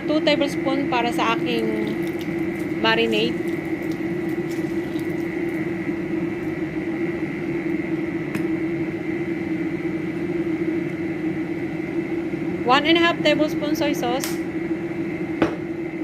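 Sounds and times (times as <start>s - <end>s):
machine hum with high whine: 0.0s - 16.0s.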